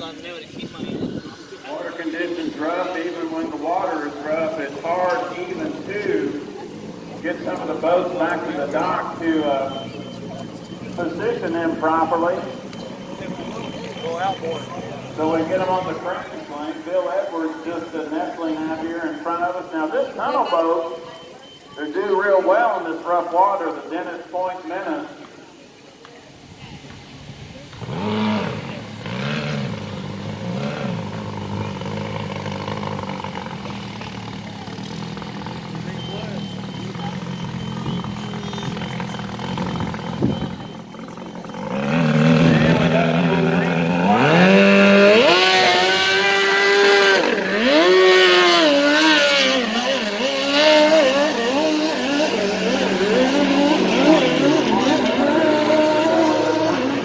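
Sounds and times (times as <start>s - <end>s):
boat engine running hard: 0.0s - 21.2s, 27.2s - 57.0s.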